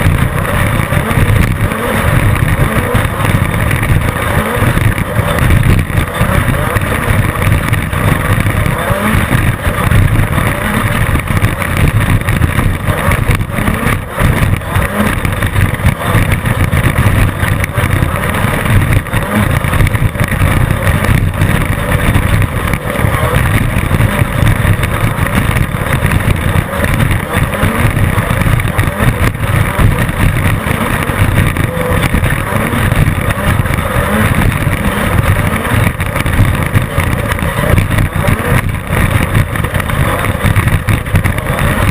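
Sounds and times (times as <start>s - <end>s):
chassis knocks and rattles: 0.0s - 41.9s
race car engine drone: 0.0s - 41.9s.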